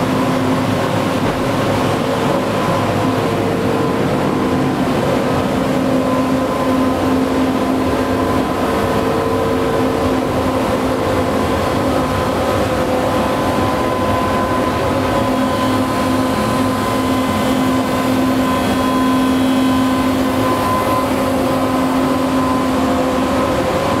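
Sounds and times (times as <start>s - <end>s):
boat diesel engines droning: 0.0s - 24.0s.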